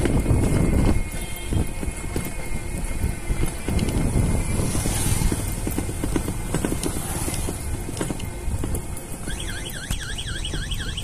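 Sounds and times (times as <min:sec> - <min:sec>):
vehicle rumbling on unpaved road: 0:00.0 - 0:11.0
wind buffeting microphone: 0:00.0 - 0:11.0.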